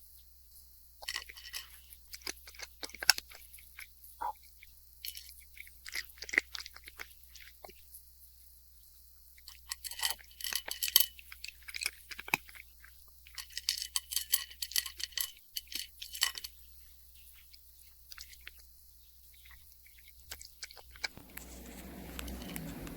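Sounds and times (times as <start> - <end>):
cat crunching dry kibble: 1.0 - 8.0, 8.8 - 22.9.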